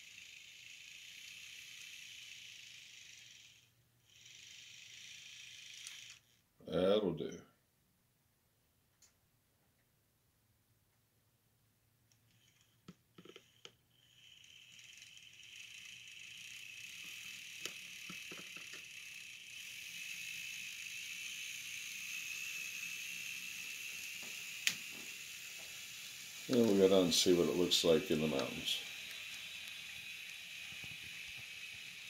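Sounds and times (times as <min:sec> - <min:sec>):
model train motor whir: 0:00.0 - 0:06.4, 0:12.3 - 0:32.0.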